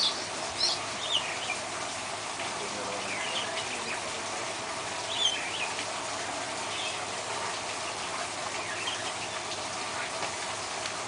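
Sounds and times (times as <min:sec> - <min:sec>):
birds chirping: 0:00.0 - 0:01.9, 0:02.6 - 0:10.2
water rushing: 0:00.0 - 0:11.0.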